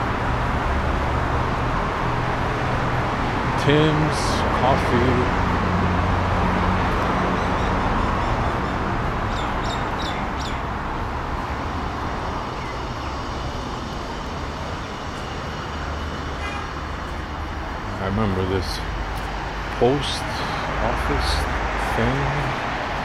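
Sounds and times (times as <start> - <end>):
vehicles driving past: 0.0 - 23.0.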